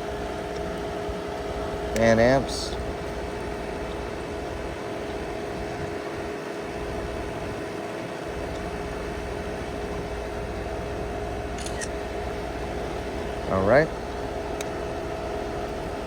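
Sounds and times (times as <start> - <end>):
compressor hum: 0.0 - 16.0
condenser fan air rush: 0.0 - 16.0.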